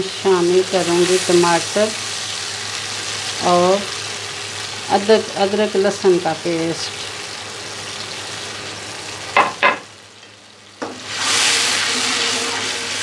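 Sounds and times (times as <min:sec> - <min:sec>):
loud sizzling hiss: 0:00.0 - 0:10.2, 0:10.8 - 0:13.0.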